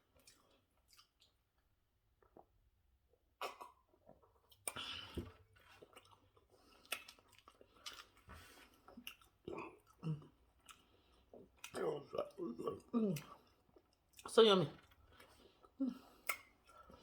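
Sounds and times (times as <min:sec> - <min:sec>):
person chewing food: 0:00.0 - 0:01.6, 0:03.4 - 0:17.0.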